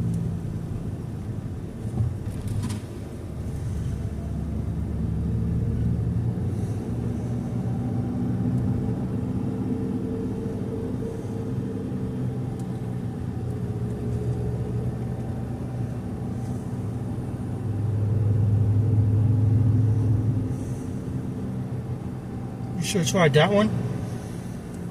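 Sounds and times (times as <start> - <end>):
car engine from inside: 0.0 - 24.9
road noise: 0.0 - 24.9.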